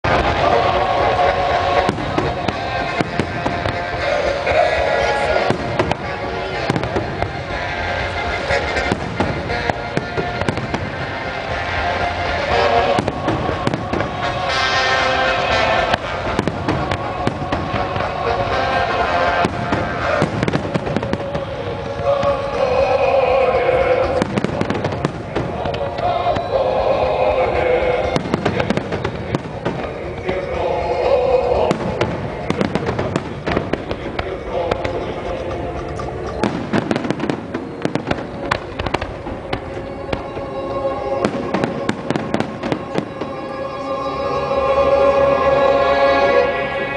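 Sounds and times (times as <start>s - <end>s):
fireworks bursting with sharp bangs: 0.0s - 44.1s
music playing: 0.0s - 46.9s.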